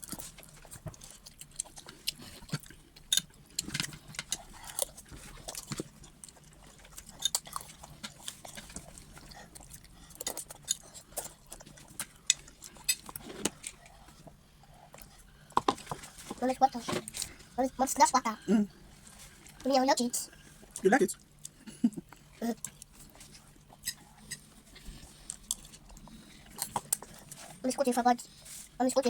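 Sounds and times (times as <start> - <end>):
chewing with mouth clicks: 0.0 - 16.2, 20.3 - 27.7.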